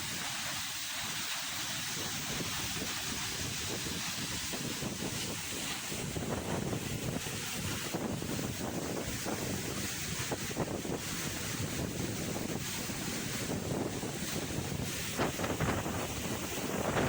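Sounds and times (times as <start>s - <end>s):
waterfall rushing: 0.0s - 17.0s
wind buffeting microphone: 1.7s - 17.0s.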